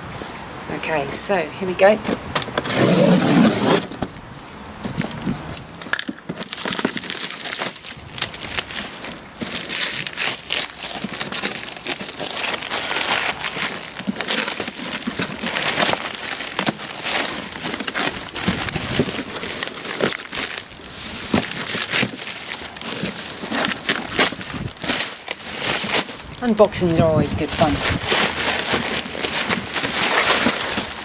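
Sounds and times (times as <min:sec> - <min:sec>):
packing material crinkling: 0:04.8 - 0:31.0.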